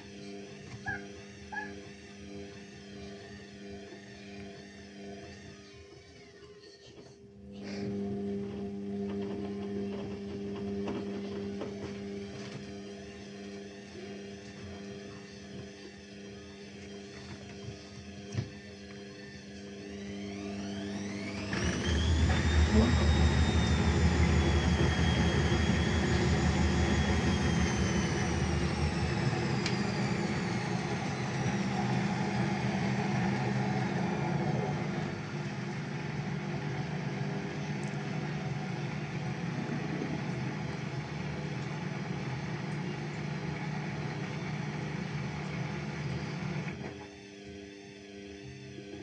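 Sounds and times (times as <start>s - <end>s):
high motor whine: 7.5s - 49.0s.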